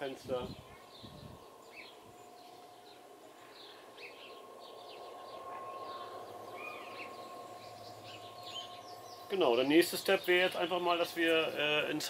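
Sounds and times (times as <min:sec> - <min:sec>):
faint steady hum: 0:00.0 - 0:12.0
small birds chirping: 0:00.0 - 0:12.0.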